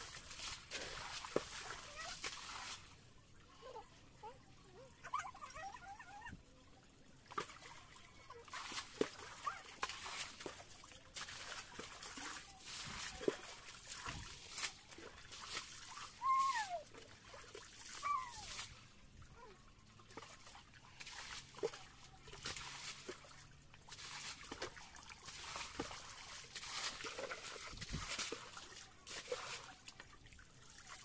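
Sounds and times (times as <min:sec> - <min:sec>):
water sloshing and splashing: 0:00.0 - 0:31.0.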